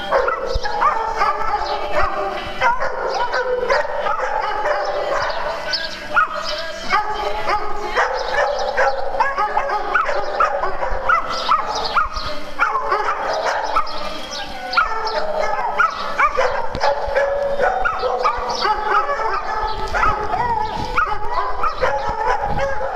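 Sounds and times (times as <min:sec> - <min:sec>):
dogs barking and yipping: 0:00.0 - 0:22.9.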